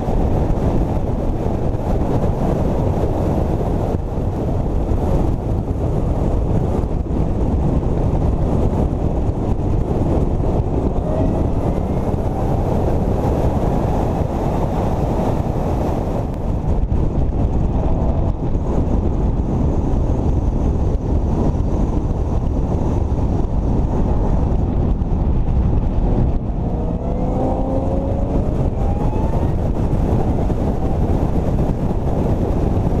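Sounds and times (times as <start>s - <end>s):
heavy wind buffeting: 0.0s - 33.0s
car engine running: 3.2s - 33.0s.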